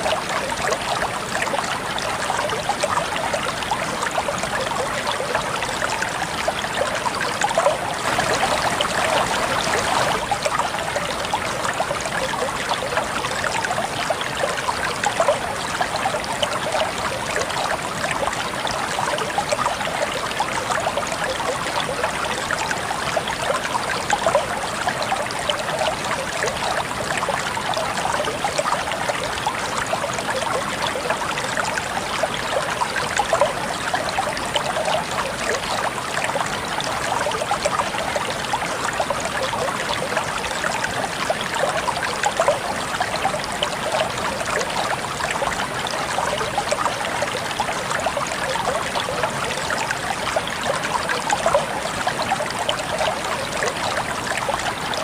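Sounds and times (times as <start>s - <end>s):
stream water babbling over stones: 0.0s - 55.0s.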